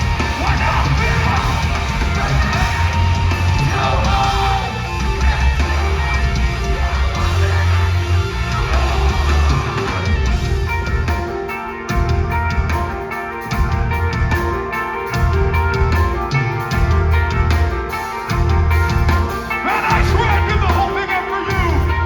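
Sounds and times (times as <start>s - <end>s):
distorted electric guitars: 0.0s - 22.0s
heavy bass and drums: 0.0s - 22.0s.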